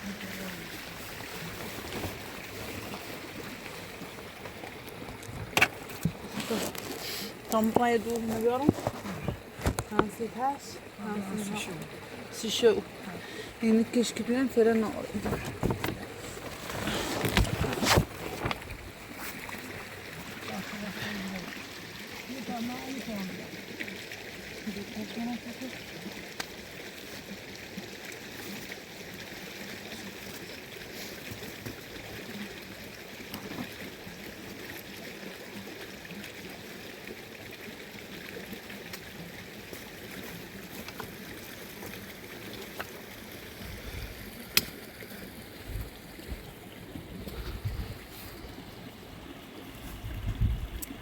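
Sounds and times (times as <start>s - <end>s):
running water rushing: 0.0s - 51.0s.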